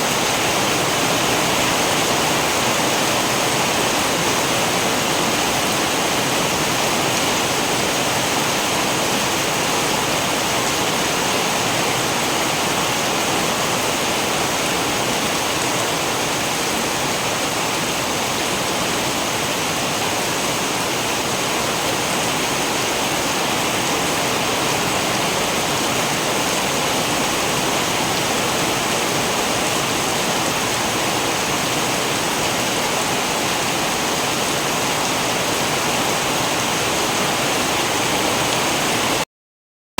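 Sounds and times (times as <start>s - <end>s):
steady rain: 0.0s - 39.2s.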